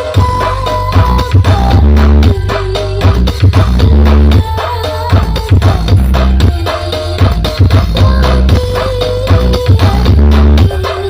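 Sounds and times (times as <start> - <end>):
loud electronic dance music: 0.0 - 11.0.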